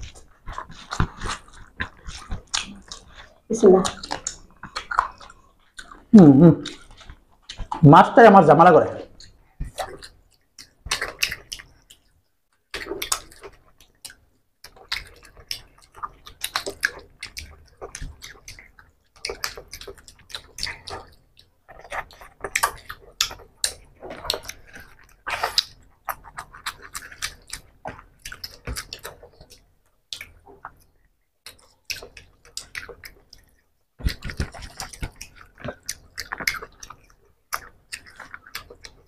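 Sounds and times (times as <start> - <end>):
wet chewing and lip-smacking: 0.0 - 7.8, 9.1 - 39.0
fingers squishing food: 0.0 - 39.0.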